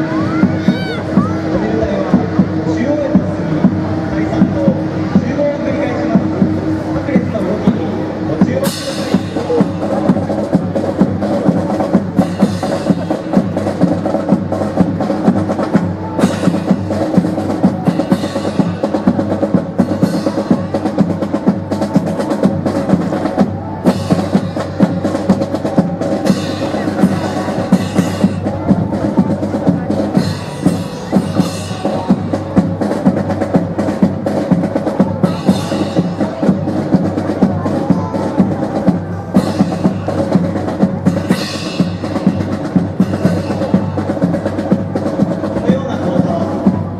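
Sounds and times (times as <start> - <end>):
drums keeping steady beat: 0.0 - 46.9.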